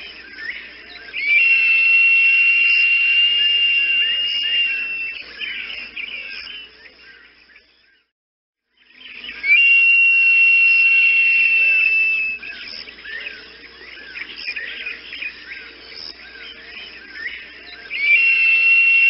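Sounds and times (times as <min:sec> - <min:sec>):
long bird whistle: 0:00.0 - 0:06.9, 0:08.8 - 0:19.0
background bird chirping: 0:00.0 - 0:19.0.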